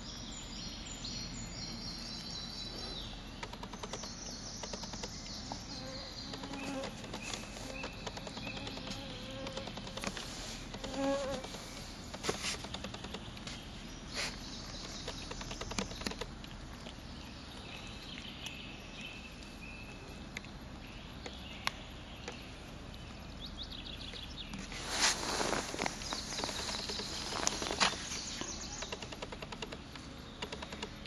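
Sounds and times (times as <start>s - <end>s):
insects buzzing: 0.0s - 31.0s
rustle: 0.0s - 31.0s.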